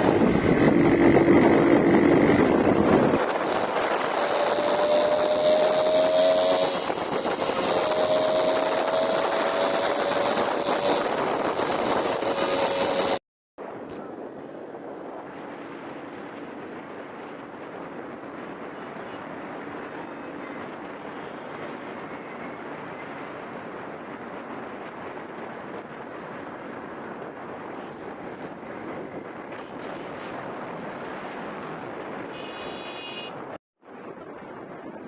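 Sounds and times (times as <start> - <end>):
rushing wind noise: 0.0 - 35.0.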